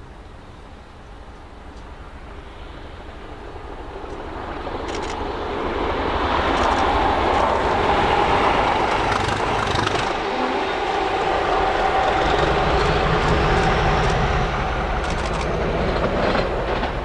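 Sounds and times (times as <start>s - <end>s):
diesel locomotive engine passing: 0.0s - 17.0s.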